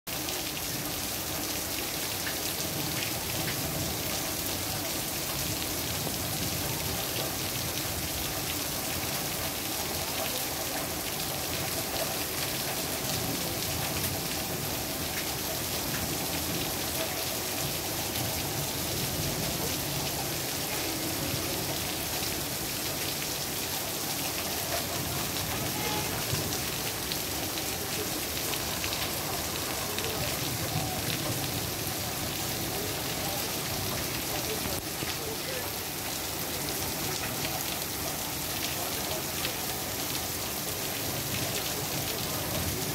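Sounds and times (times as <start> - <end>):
heavy rain on pavement: 0.1 - 42.9.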